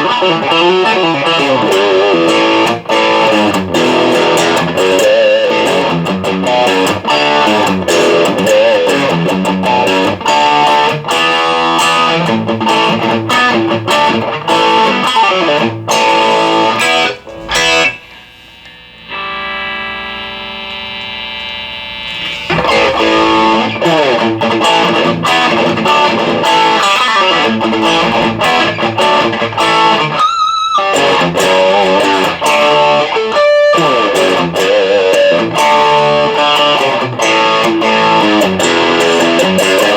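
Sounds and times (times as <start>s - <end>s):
electric guitar riffs: 0.0s - 39.9s.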